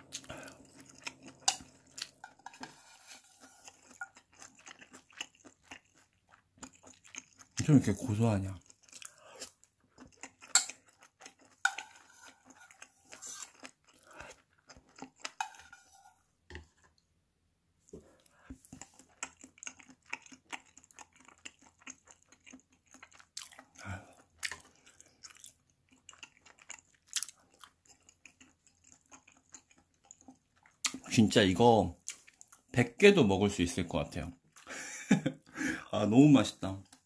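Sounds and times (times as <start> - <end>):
person chewing crunchy food: 0.0 - 17.1, 17.9 - 31.2.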